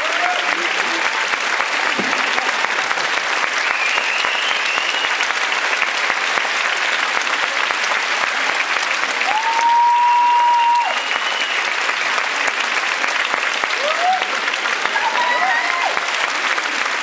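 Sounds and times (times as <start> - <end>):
audience clapping: 0.0 - 17.0.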